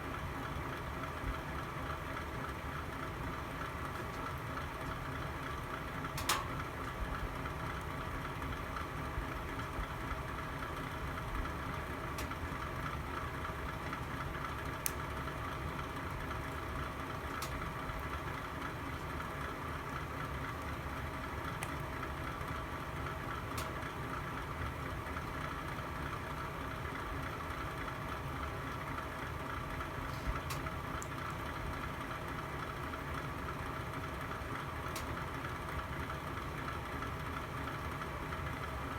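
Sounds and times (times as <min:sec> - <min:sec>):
fire rumble and hiss: 0:00.0 - 0:38.8.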